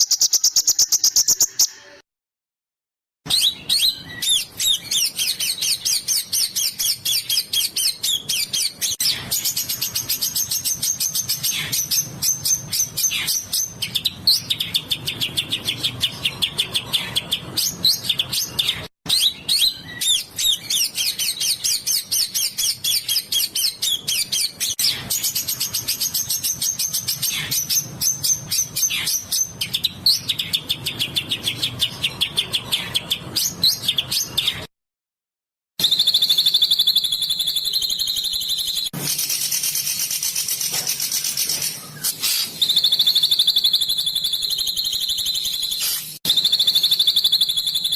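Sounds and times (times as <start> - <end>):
songbirds chirping and trilling: 3.3 - 34.7, 35.8 - 47.9.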